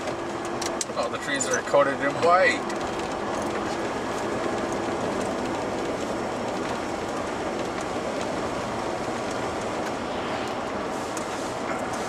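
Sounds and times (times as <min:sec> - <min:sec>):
truck engine droning: 0:00.0 - 0:12.0
tyres on wet road: 0:00.0 - 0:12.0.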